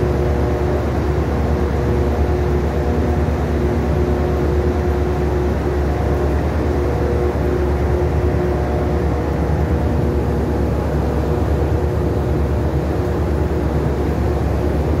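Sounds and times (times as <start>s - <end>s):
ship machinery hum: 0.0s - 15.0s.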